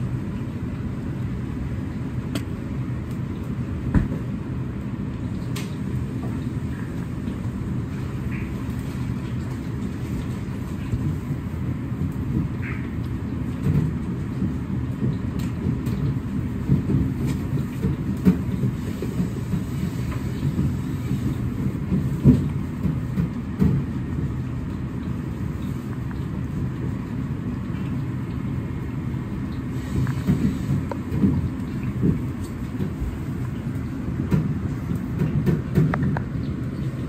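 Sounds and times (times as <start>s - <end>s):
kitchen low rumble: 0.0s - 37.0s.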